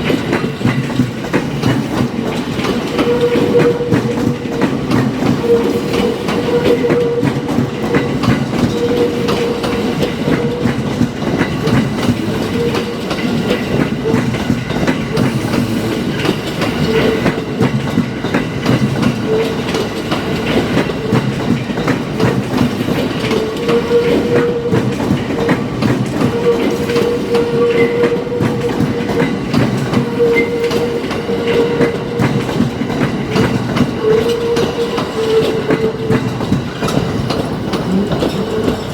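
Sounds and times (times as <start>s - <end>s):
electric train on rails: 0.0s - 38.9s.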